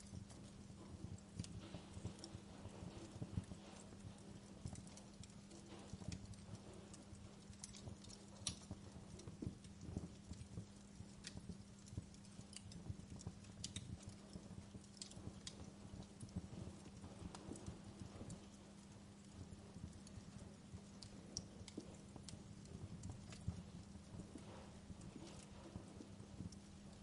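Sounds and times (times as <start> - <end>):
steady low hum: 0.0 - 27.0
wood fire crackling: 0.0 - 27.0.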